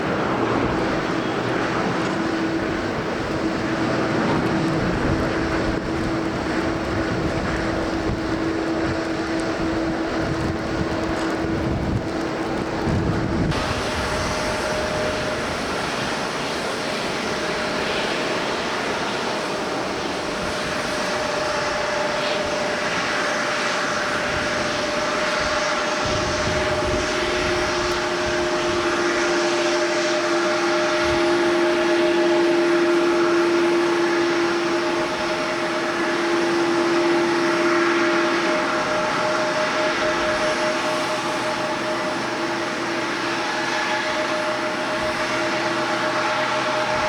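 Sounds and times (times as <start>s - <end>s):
airliner engines whining: 0.0s - 47.0s
lower engine whine: 0.0s - 47.0s.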